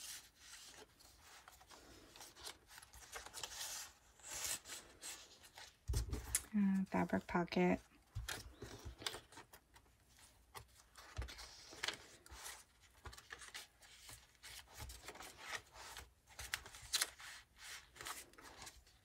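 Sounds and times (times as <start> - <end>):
paper rustling: 0.0 - 6.5, 8.1 - 19.0.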